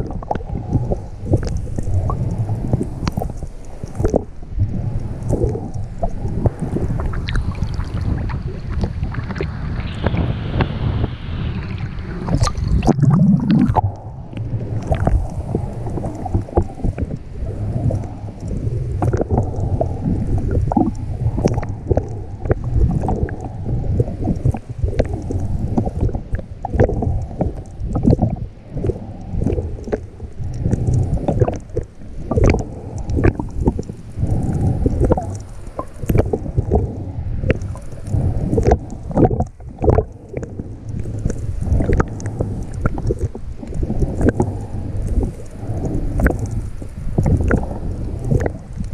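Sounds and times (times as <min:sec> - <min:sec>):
clicks and crackles: 0:00.0 - 0:10.7, 0:11.7 - 0:48.9
water rushing and sloshing underwater: 0:00.0 - 0:48.9.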